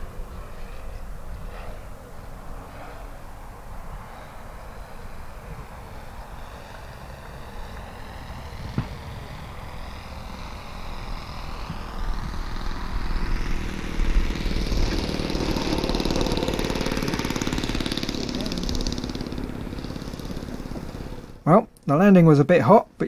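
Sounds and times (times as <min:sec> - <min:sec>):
model airplane engine: 0:00.0 - 0:21.8.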